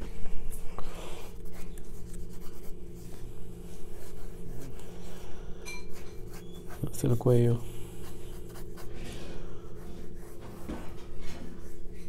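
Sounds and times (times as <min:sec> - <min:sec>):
steady low hum: 0:00.0 - 0:12.0
pencil sketching on paper: 0:01.2 - 0:12.0.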